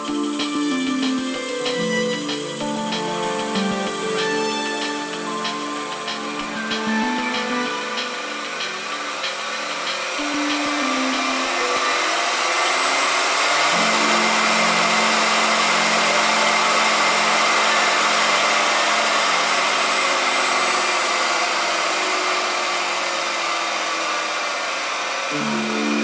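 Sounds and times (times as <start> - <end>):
lathe motor running: 0.0 - 26.0.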